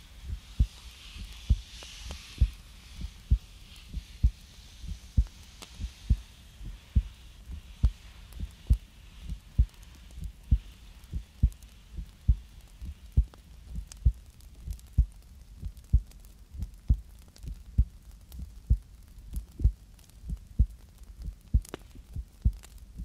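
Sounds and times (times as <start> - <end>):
heartbeat thumps: 0.3 - 1.7, 2.4 - 23.0.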